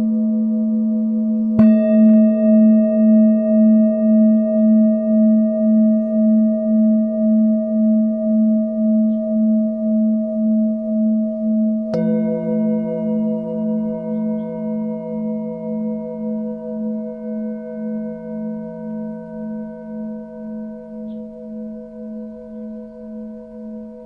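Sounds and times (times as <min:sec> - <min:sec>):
lower-pitched singing bowl: 0:00.0 - 0:24.0
singing bowl ringing: 0:00.0 - 0:24.0.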